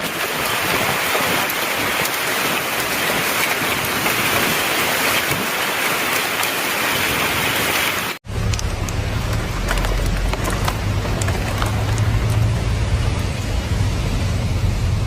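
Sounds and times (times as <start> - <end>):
raindrops ticking on a surface: 0.0 - 7.2, 7.8 - 13.5
heavy rain: 0.0 - 15.0.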